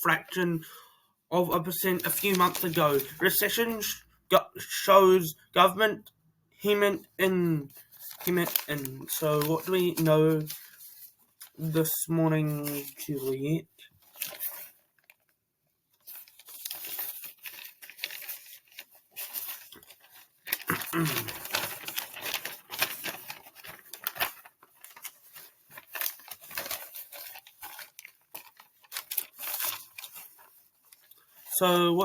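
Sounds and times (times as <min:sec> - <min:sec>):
rustling and crinkling handling: 0:01.6 - 0:03.9, 0:06.8 - 0:32.0.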